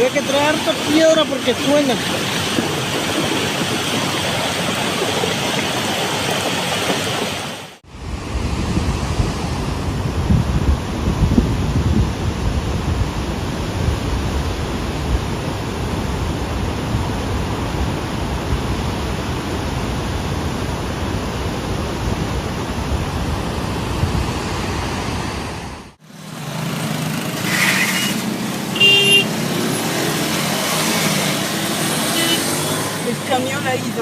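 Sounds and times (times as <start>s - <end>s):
roar of flood torrent: 0.0s - 34.0s.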